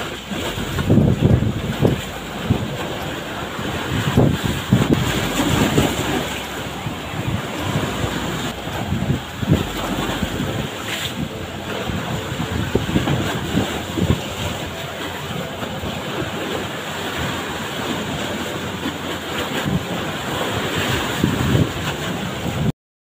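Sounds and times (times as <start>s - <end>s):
waves breaking on shore: 0.0s - 22.7s
wind buffeting microphone: 0.0s - 22.7s.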